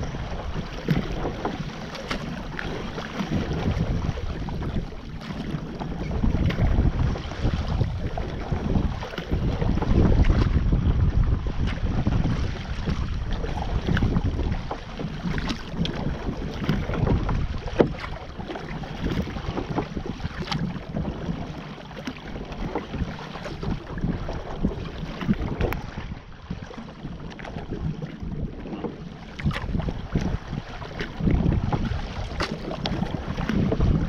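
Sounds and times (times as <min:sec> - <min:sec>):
paddle splashing in water: 0:00.0 - 0:34.0
water lapping at hull: 0:00.0 - 0:34.0
wind buffeting microphone: 0:00.0 - 0:34.0.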